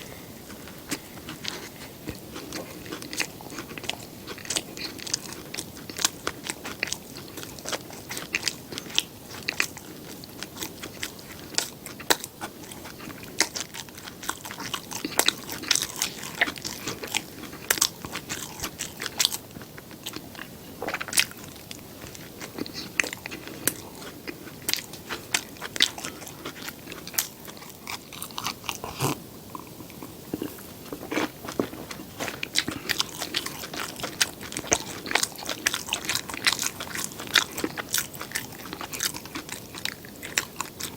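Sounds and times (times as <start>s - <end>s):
crunchy bites and chewing: 0.0s - 40.9s.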